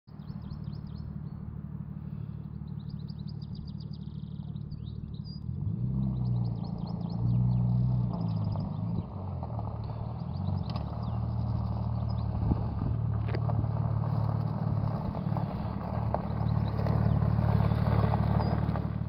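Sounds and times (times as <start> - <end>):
small birds chirping: 0.1 - 9.2, 9.8 - 12.8, 14.2 - 18.8
car engine idling and pulling away: 0.1 - 19.0
tyres crunching over gravel: 3.0 - 19.0.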